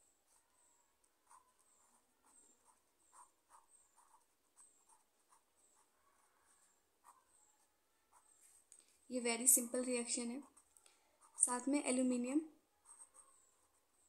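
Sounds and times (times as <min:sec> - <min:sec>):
pen scratching on paper: 0:00.2 - 0:08.7, 0:09.6 - 0:14.0.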